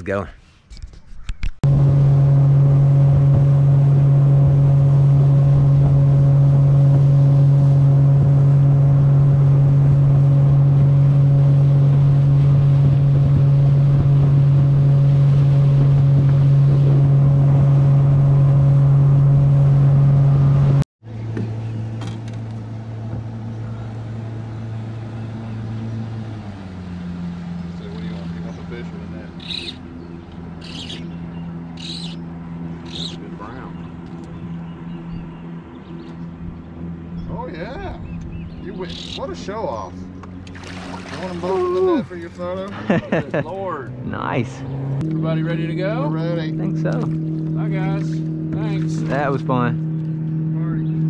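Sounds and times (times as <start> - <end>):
low engine hum: 0.0 - 51.0
outboard motor running: 1.0 - 51.0.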